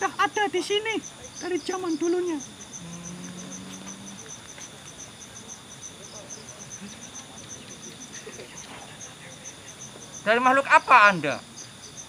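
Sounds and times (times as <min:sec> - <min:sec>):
crickets chirping: 0:00.0 - 0:12.0
high-pitched insect drone: 0:00.0 - 0:12.0.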